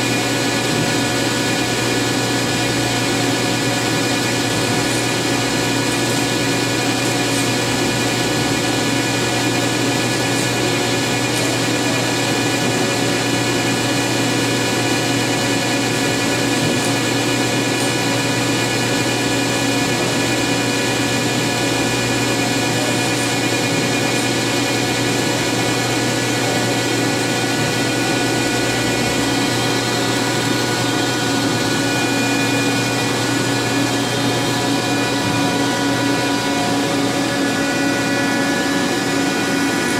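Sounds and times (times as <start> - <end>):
lathe machine hum and whir: 0.0 - 39.9.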